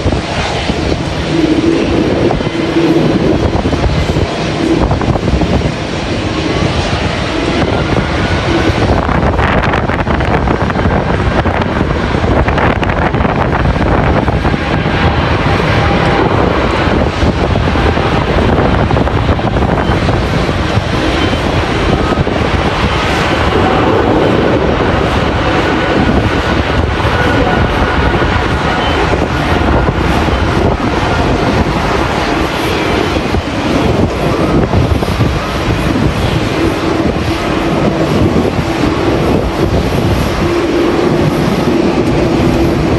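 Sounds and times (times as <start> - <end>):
jet engines running: 0.0 - 42.9
wind buffeting microphone: 0.0 - 42.9.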